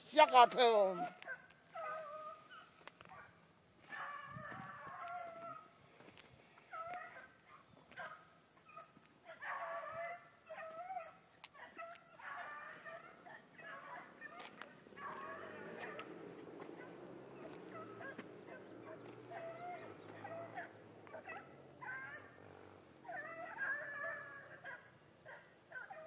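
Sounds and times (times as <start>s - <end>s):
dogs baying faintly: 0.8s - 26.0s.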